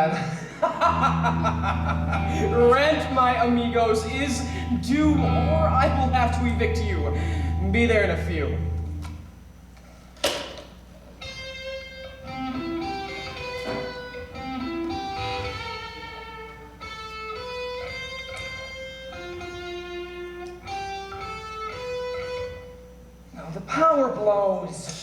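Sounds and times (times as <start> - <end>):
steady low hum: 0.0 - 25.0
electric guitar single notes: 0.8 - 9.8, 10.8 - 23.3.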